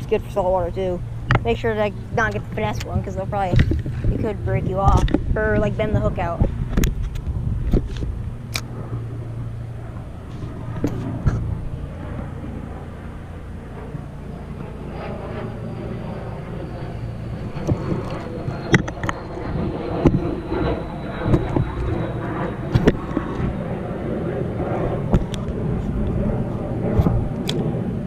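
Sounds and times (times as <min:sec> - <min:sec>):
distant motor humming: 0:00.0 - 0:28.0.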